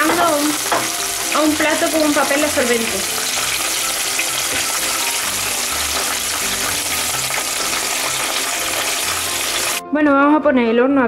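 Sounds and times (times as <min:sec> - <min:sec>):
wings deep-frying in oil: 0:00.0 - 0:09.8.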